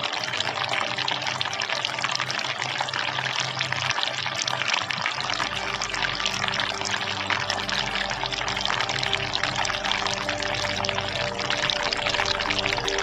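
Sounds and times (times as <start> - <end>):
fountain water splashing: 0.0 - 13.0
music of sustained low notes: 0.0 - 13.0.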